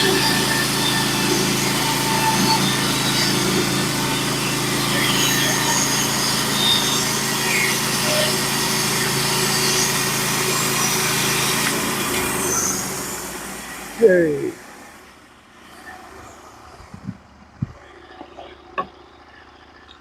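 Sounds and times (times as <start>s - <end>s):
band saw blade cutting log: 0.0s - 18.3s
gas engine running under load: 0.0s - 20.0s.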